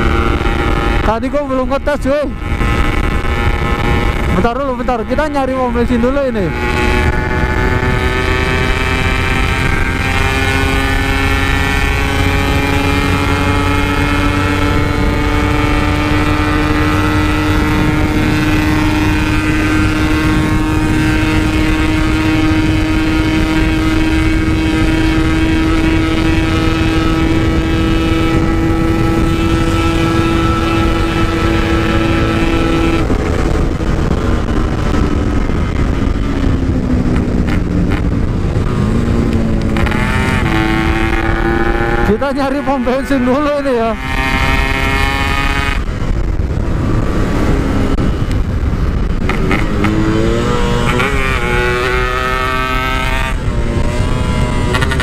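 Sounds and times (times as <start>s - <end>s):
two-stroke motorcycle engine: 0.0s - 55.0s.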